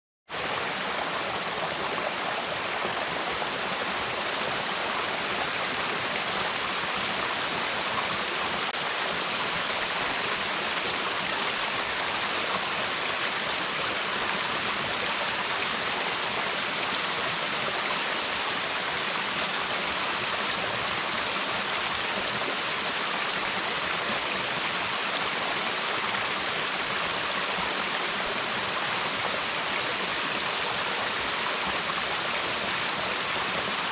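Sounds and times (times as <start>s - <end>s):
waterfall rushing water: 0.3s - 33.9s.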